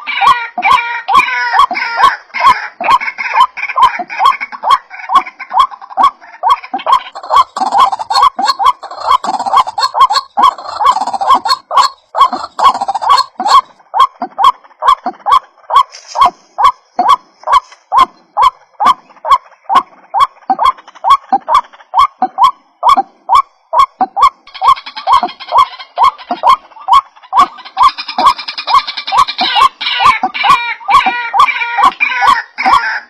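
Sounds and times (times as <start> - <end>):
waterhen calls: 0.0 - 33.0.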